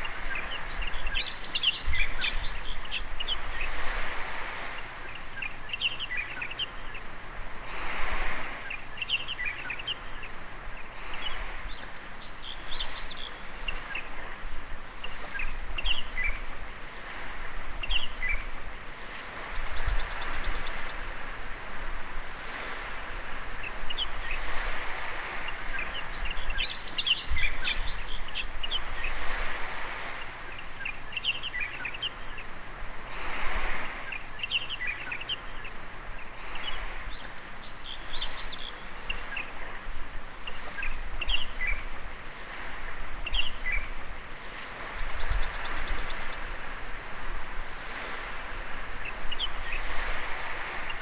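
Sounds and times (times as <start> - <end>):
birds chirping: 0.0 - 7.2, 8.2 - 21.5, 22.4 - 51.0
small waves washing on sand: 0.0 - 51.0.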